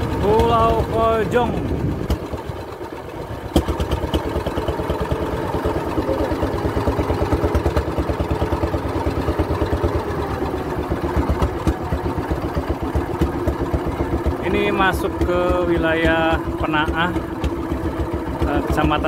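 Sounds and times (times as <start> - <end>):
boat engine puttering: 0.0 - 19.0.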